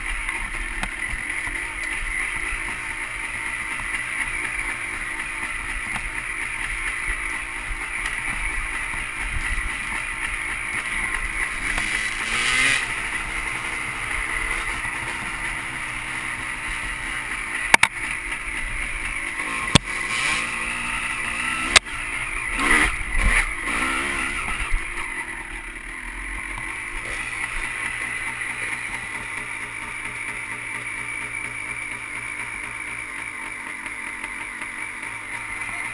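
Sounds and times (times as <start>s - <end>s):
dirt bike engine running: 0.0s - 35.9s.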